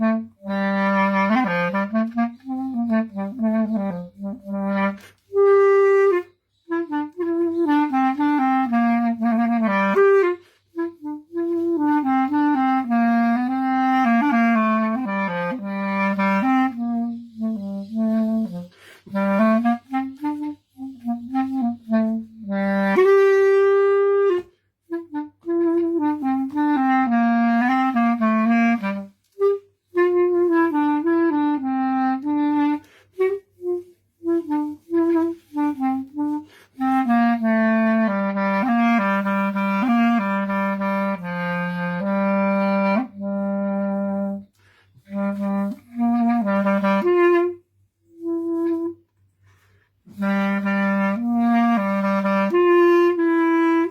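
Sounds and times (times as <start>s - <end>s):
solo clarinet melody: 0.0s - 53.9s.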